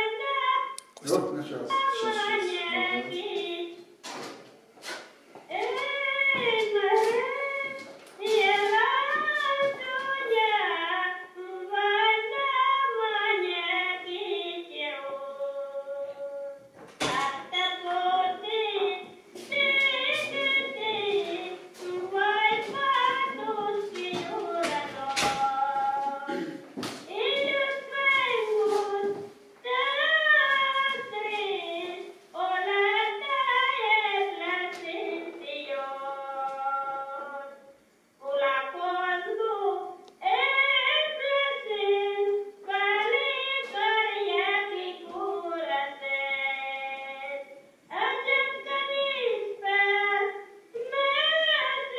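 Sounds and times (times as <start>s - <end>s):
woman singing folk song: 1.7s - 3.8s, 5.5s - 37.6s, 38.2s - 51.9s.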